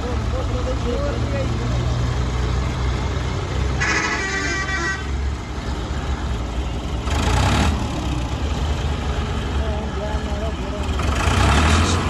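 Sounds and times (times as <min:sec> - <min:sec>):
tractor diesel engine rumbling: 0:00.0 - 0:12.0.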